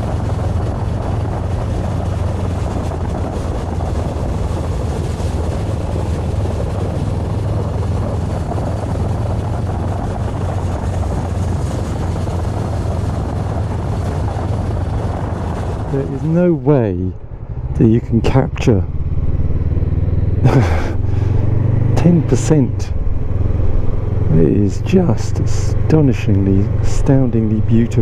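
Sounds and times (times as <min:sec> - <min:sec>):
motorcycle engine droning: 0:00.0 - 0:28.0
road noise: 0:00.0 - 0:28.0
wind noise: 0:00.0 - 0:28.0.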